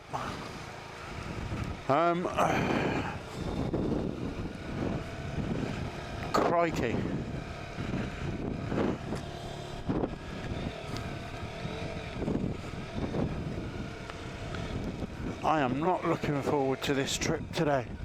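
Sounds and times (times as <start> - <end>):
motorcycle engine running: 0.0 - 18.0
wind noise on microphone: 1.1 - 15.9, 17.3 - 18.0.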